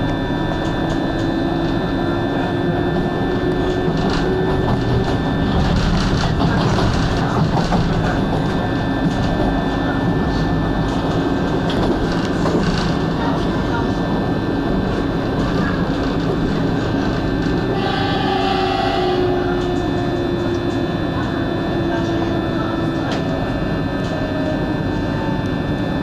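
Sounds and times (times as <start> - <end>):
train rumbling on tracks: 0.0 - 26.0.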